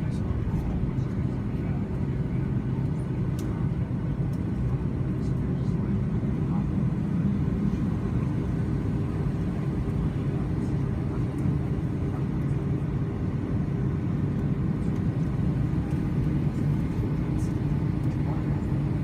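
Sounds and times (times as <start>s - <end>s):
jet engine cabin rumble: 0.0s - 19.0s.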